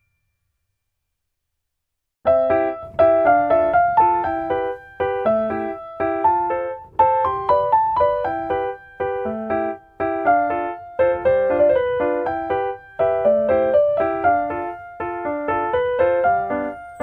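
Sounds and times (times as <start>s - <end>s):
piano music: 2.3s - 17.0s.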